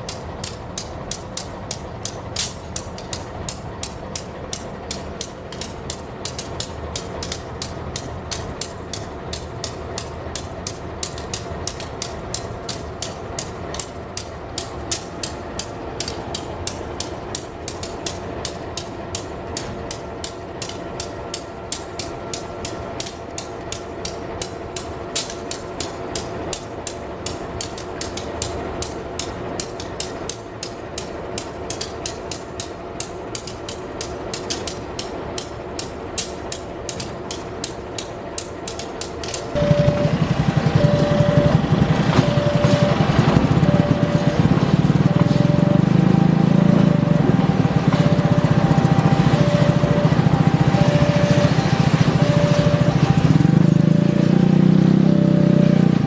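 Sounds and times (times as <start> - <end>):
diesel locomotive engine: 0.0 - 56.0
train rumble: 0.0 - 56.0
train wheels clicking over rail joints: 0.0 - 56.0.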